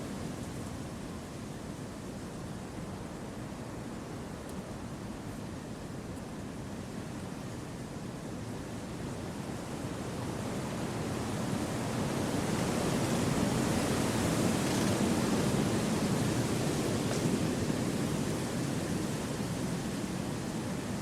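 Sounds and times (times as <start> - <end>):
wind through forest trees: 0.0 - 21.0.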